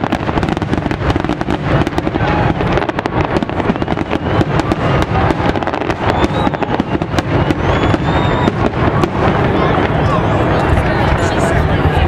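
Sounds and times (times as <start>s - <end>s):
rising fireworks whistles: 0.0s - 11.4s
fireworks bangs and crackling: 0.0s - 12.0s.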